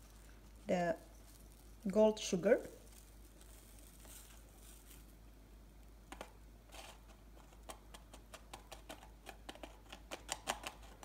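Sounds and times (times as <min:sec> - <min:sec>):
fondant rolling in coarse sugar: 0:00.0 - 0:11.0.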